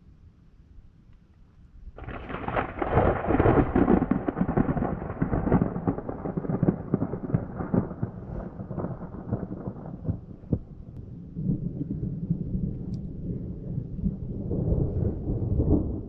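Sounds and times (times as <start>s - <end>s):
thunder crash and rumble: 2.0s - 16.0s.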